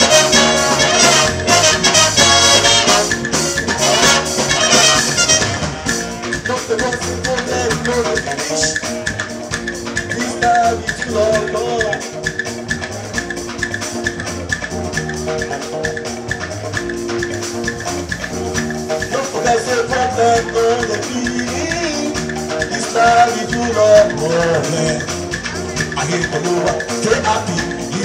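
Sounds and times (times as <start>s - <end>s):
live band playing dance music: 0.0s - 28.0s
rattling percussion: 0.0s - 28.0s.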